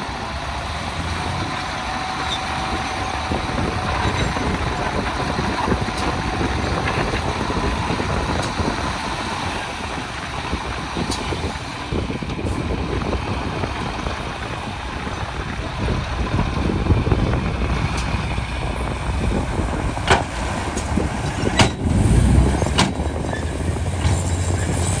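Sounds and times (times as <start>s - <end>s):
heavy diesel machinery running: 0.0s - 25.0s.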